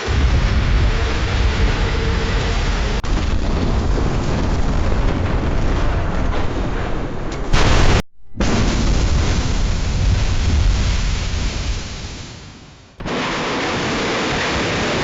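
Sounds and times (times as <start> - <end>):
deep rumbling explosion boom: 0.0 - 15.0.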